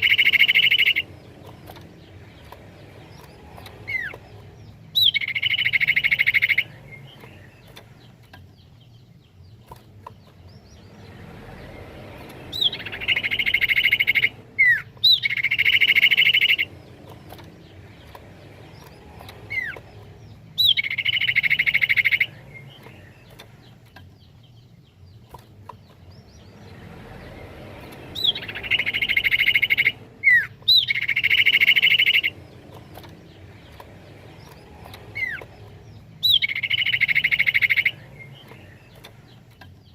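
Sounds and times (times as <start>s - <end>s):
bird calling with rapid trills: 0.0s - 39.9s.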